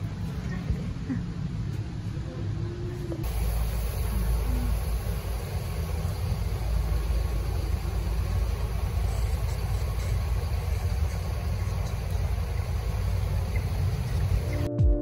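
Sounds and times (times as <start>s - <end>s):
car engines passing and idling: 0.0s - 14.7s
road traffic rumble: 0.0s - 14.7s.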